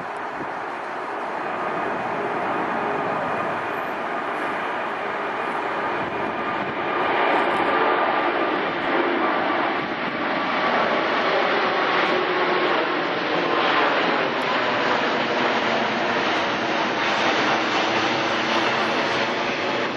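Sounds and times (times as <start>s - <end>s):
jet engines rushing: 0.0s - 19.9s.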